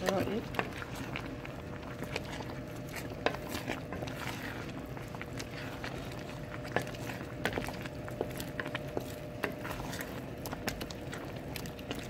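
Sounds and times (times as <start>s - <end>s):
wooden spoon stirring thick soup: 0.0s - 12.0s.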